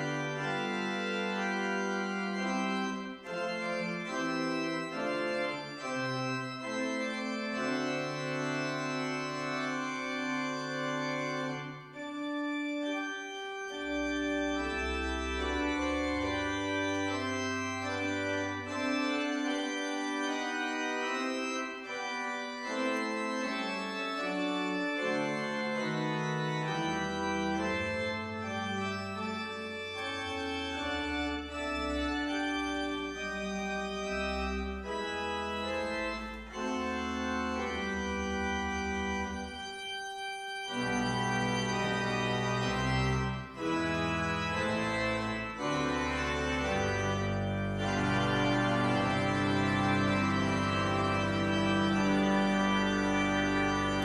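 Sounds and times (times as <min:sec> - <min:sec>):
church organ held chords: 0:00.0 - 0:54.0
deep organ pedal notes: 0:00.0 - 0:54.0.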